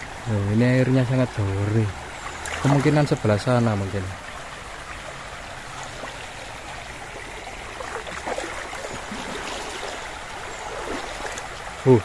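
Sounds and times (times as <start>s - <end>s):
river water flowing over stones: 0.0s - 12.0s
water splashing: 0.9s - 12.0s.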